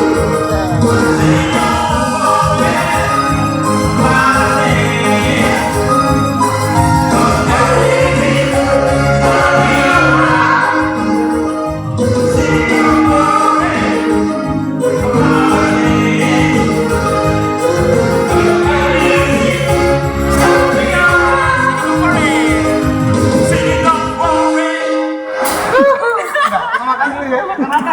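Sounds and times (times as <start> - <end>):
live band music: 0.0 - 26.5
people singing: 0.0 - 26.8
keyboard: 0.0 - 27.9.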